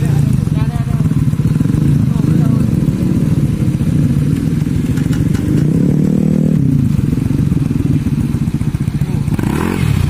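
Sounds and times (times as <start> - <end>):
scooter engines revving: 0.0 - 10.0.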